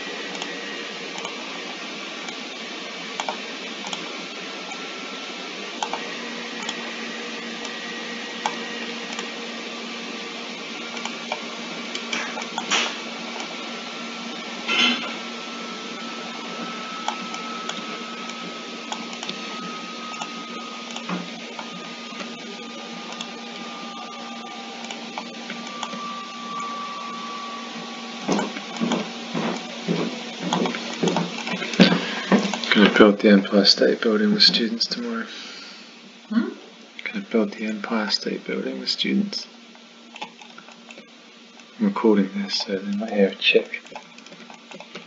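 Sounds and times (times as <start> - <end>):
faint hum: 0.0 - 45.0
room noise hiss: 0.0 - 45.0.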